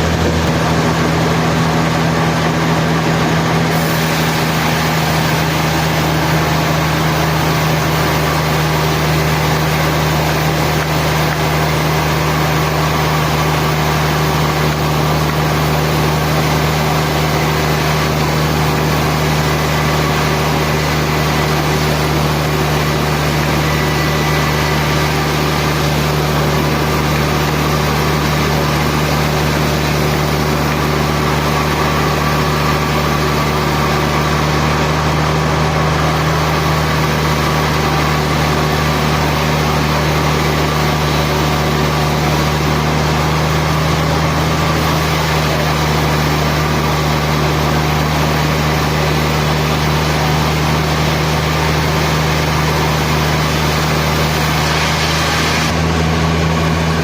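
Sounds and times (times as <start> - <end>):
sawmill machinery motor hum: 0.0 - 57.0.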